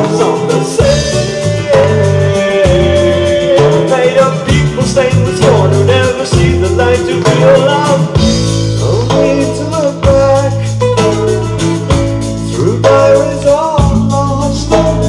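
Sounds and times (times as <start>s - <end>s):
song through loud speakers: 0.0s - 15.0s.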